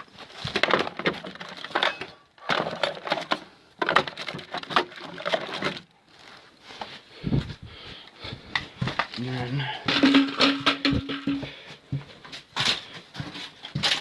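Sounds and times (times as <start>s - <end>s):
debris clattering and crunching: 0.0s - 7.6s, 8.3s - 14.0s.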